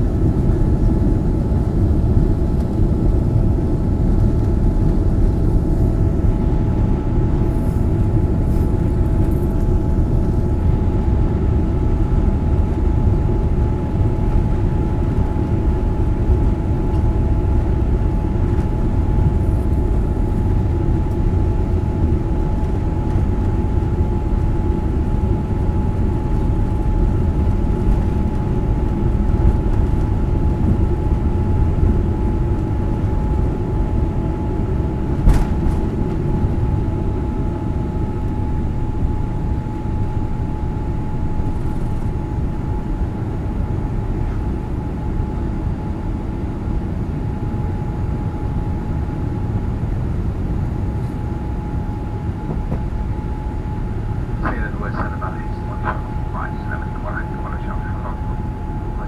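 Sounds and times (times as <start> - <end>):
high engine whine: 0.0 - 59.0
jet engines rumbling: 0.0 - 59.0.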